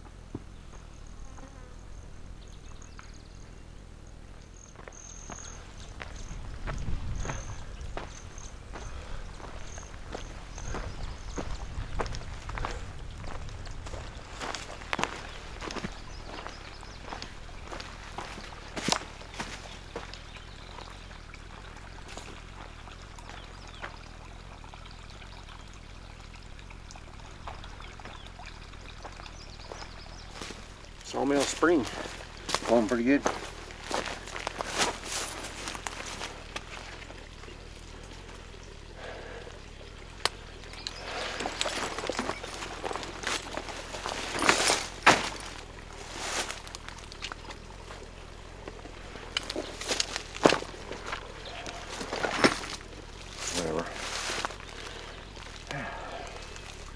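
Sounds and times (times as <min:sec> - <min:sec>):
spring water trickling and splashing: 0:04.3 - 0:56.9.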